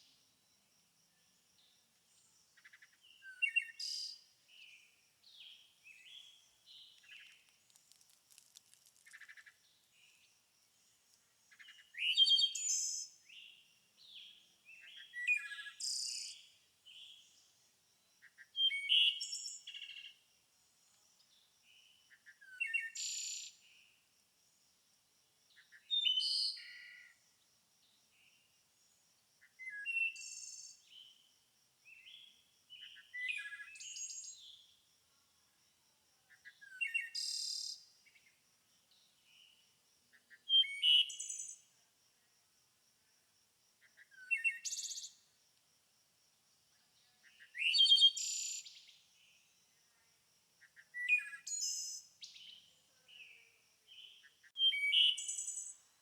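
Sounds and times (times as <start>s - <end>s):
songbird singing: 0.0s - 24.0s, 25.5s - 27.2s, 27.8s - 34.9s, 36.2s - 41.8s, 43.8s - 45.3s, 46.7s - 50.0s, 50.6s - 56.0s.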